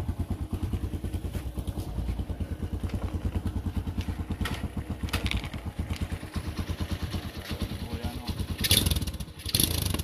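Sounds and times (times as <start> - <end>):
quad bike engine idling: 0.0 - 10.0.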